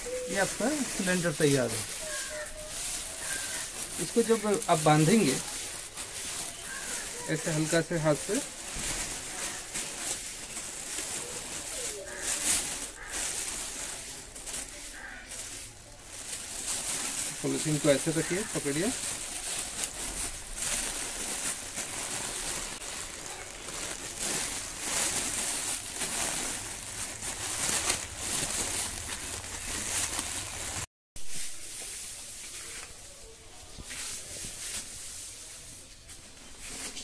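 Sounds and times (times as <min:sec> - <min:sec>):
plastic bag crinkling: 0:00.0 - 0:30.9.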